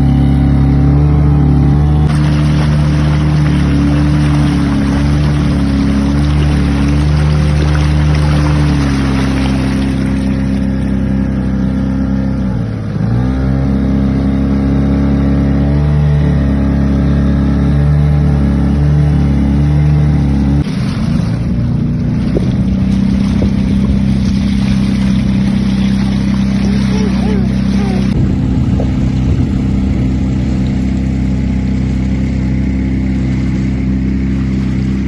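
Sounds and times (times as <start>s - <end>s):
motorboat engine running: 0.0s - 35.0s.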